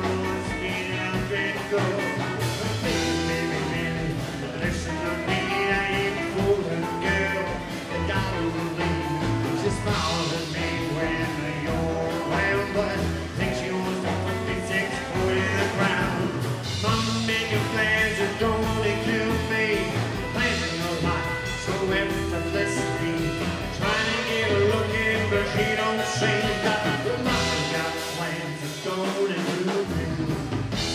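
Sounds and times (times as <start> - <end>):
drum kit beat: 0.0 - 30.9
man singing: 0.0 - 30.9
rockabilly band playing: 0.0 - 30.9.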